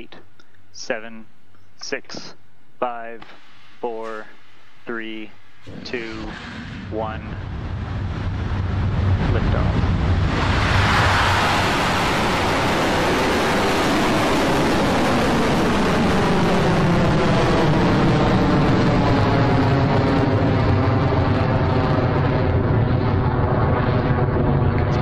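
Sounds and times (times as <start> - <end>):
rocket engines rumbling: 1.8 - 25.0.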